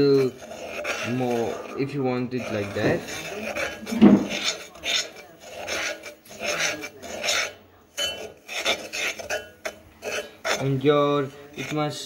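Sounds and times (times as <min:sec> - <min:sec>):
fork scraping sugar in pot: 0:00.0 - 0:12.0.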